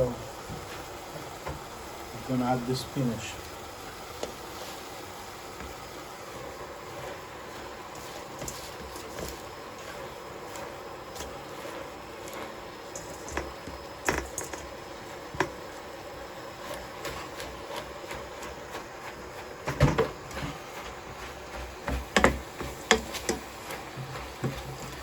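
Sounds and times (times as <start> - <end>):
utensil scraping a pan: 3.9 - 25.0.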